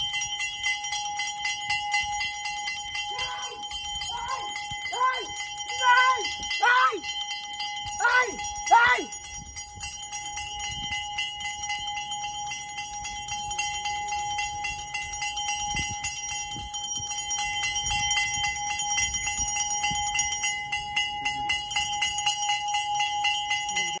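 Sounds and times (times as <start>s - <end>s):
hand bell rung rapidly: 0.0s - 24.0s.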